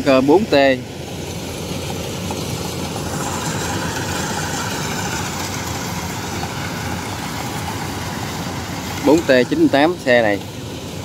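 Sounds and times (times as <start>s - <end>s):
harvester engines running: 0.0s - 11.0s.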